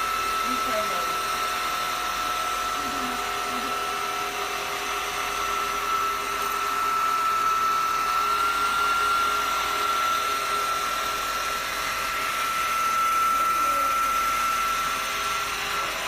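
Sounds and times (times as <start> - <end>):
floor cleaner motor whine: 0.0 - 16.0.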